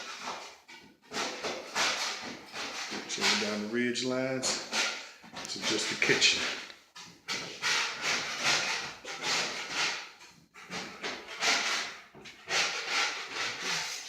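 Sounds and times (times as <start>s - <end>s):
rubbing on rough surface: 0.0s - 14.0s.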